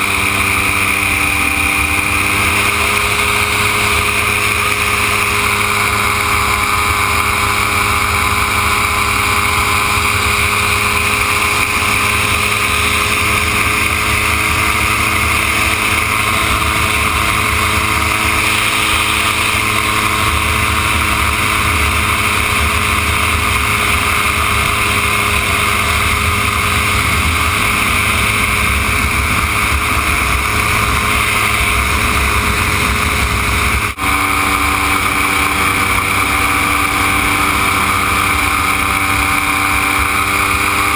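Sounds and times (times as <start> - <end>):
gyroplane engine and propeller: 0.0 - 40.9.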